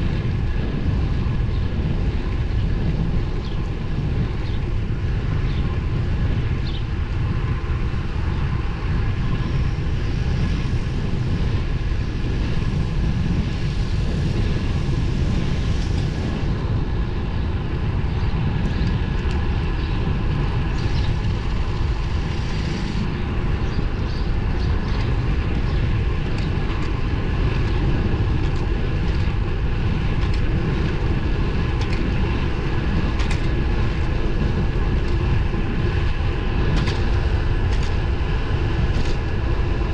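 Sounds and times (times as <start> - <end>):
bicycle tyre noise on road: 0.0 - 39.9
heavy low rumble: 0.0 - 39.9
wind rushing on microphone: 0.0 - 39.9.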